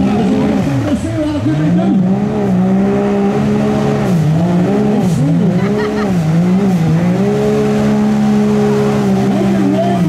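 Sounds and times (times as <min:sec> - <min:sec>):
buggy engine churning through mud: 0:00.0 - 0:10.0.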